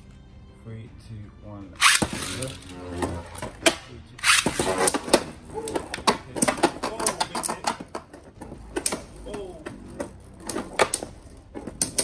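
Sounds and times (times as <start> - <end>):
spinning tops whirring and clattering: 1.8 - 12.0.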